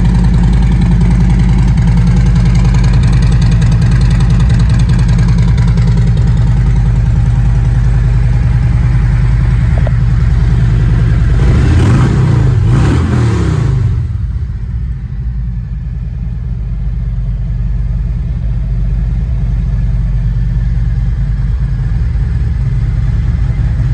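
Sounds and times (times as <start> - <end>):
motorcycle engine revving and idling: 0.0 - 23.9.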